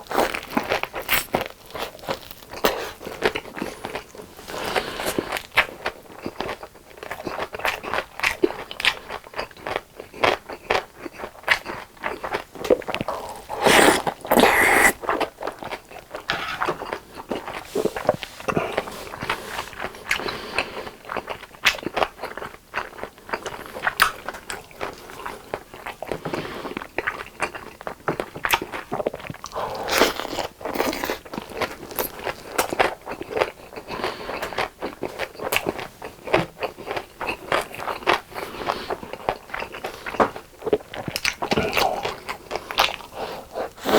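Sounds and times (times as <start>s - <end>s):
chewing and crunching food: 0.0s - 43.9s.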